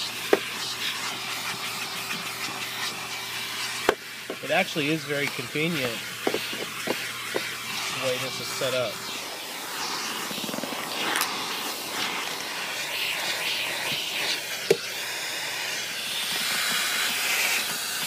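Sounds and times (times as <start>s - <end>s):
car vacuum rushing air: 0.0s - 18.0s.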